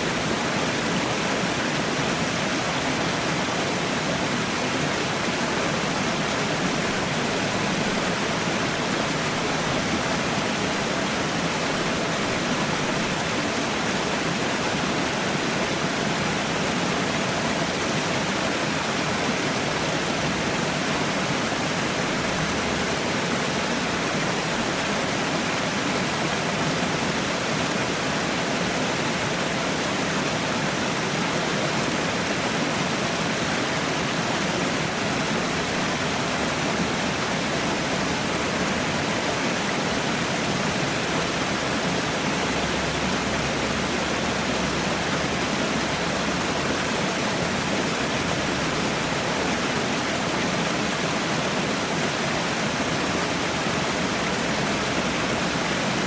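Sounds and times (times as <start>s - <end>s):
falling water rushing: 0.0s - 56.0s.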